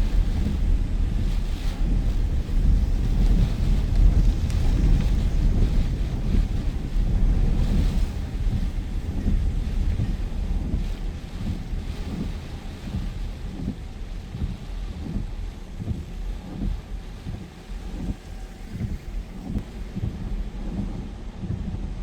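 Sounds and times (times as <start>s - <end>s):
wind gusting against microphone: 0.0s - 22.0s.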